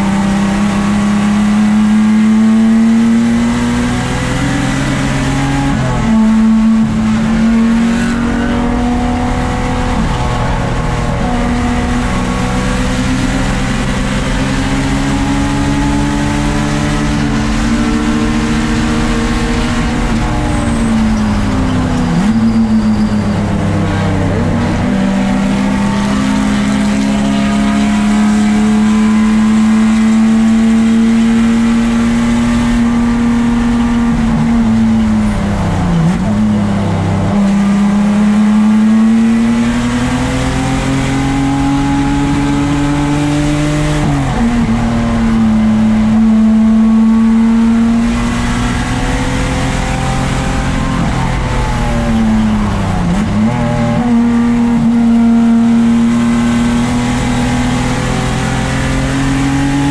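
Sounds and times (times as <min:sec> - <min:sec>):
racing car engine at high revs: 0:00.0 - 0:59.9.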